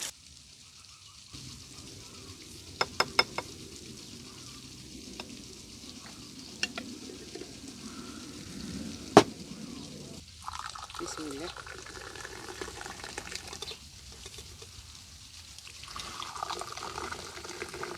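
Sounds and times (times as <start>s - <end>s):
food sizzling in a pan: 0.0s - 17.9s.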